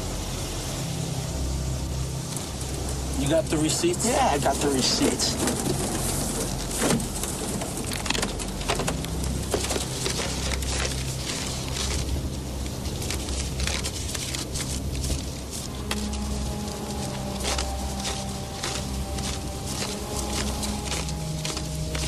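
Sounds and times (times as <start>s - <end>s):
low hum inside a car: 0.0s - 22.0s
rain pattering on car body: 2.2s - 22.0s.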